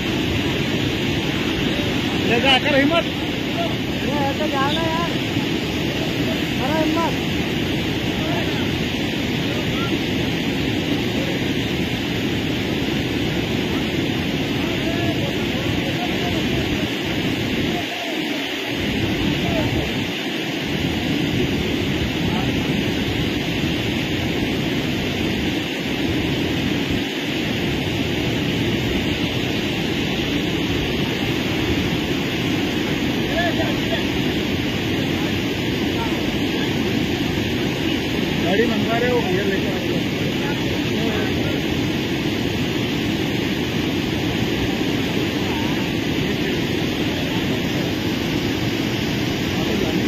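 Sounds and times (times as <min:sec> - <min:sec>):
floodwater rushing over weir: 0:00.0 - 0:50.0.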